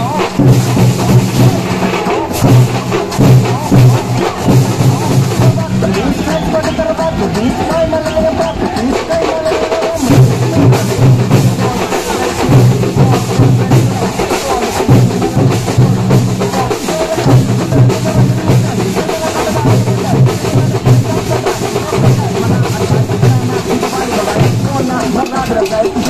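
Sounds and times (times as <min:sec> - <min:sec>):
fast dense drumming: 0:00.0 - 0:26.0.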